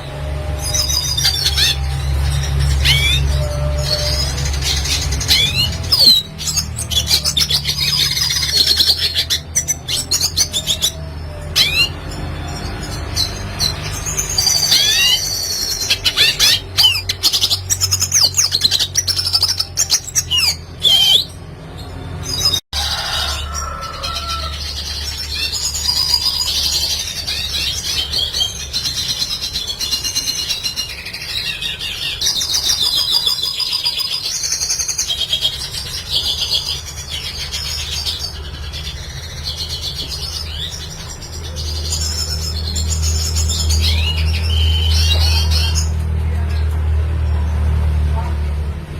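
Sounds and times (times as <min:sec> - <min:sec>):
bird twittering song: 0:00.0 - 0:47.4.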